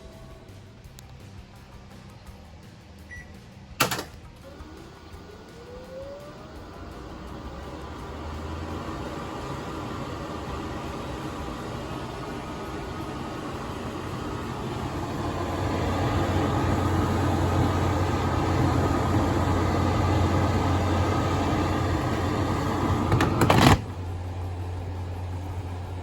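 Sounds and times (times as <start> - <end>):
washer-dryer mechanical noise: 3.1 - 26.0
low hum: 4.2 - 26.0.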